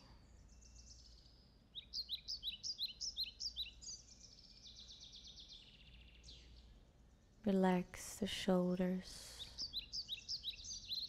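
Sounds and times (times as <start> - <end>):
faint room hum: 0.0 - 11.0
songbird chirping and trilling: 0.0 - 11.0.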